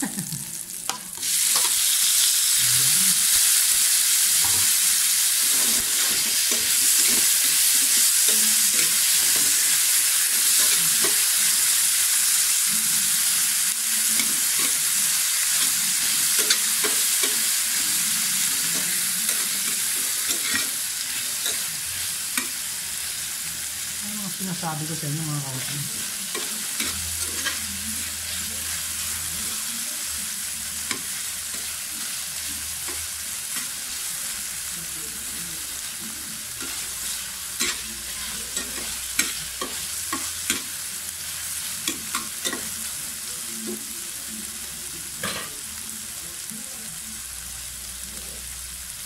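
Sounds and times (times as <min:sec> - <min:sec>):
vegetables sizzling in hot oil: 0:00.0 - 0:49.0.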